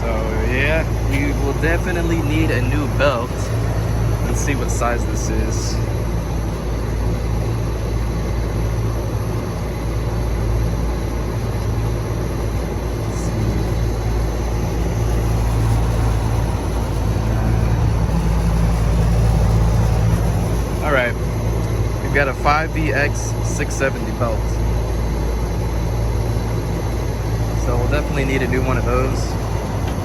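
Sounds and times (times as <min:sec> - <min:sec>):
blower motor humming: 0:00.0 - 0:30.0.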